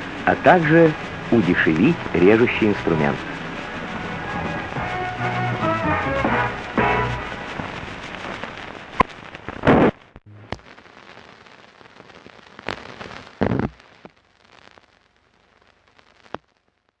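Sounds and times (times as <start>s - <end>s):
film soundtrack hiss and crackle: 0.0s - 17.0s.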